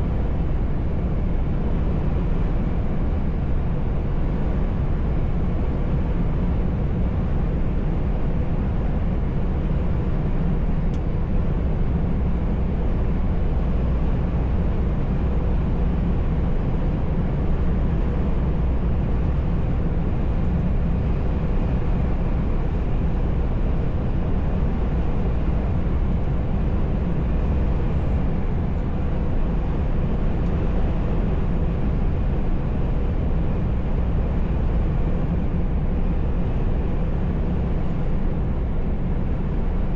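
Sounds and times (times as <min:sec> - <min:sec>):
truck engine and tyres rumbling: 0:00.0 - 0:39.9.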